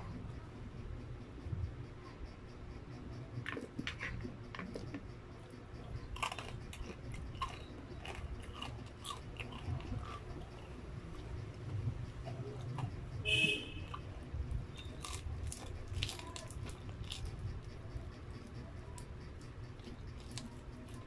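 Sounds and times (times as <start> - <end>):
crunching and chewing fried chicken: 0.0 - 21.0.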